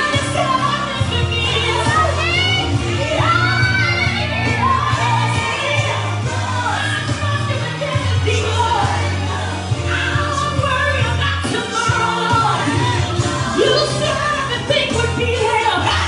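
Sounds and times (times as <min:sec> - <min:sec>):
amplified recorded music with bass: 0:00.0 - 0:16.0
woman singing into microphone: 0:00.0 - 0:16.0.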